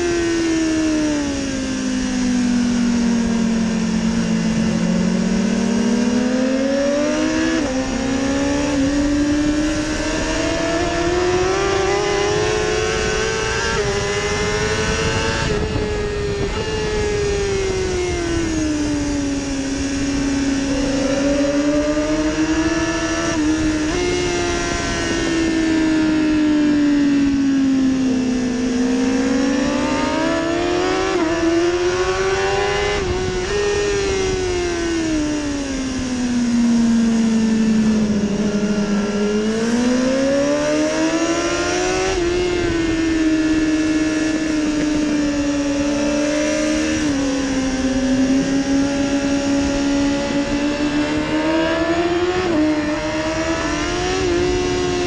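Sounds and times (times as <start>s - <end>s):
motorcycle engine at speed: 0.0s - 55.0s
wind rush: 7.1s - 27.5s, 28.4s - 55.0s.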